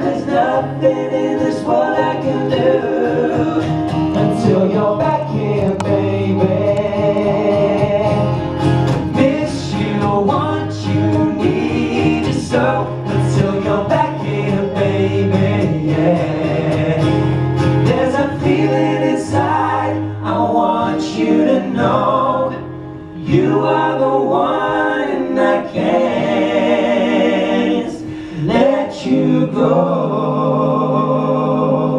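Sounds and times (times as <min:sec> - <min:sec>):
acoustic guitar: 0:00.0 - 0:31.9
male voices singing in harmony: 0:00.0 - 0:31.9.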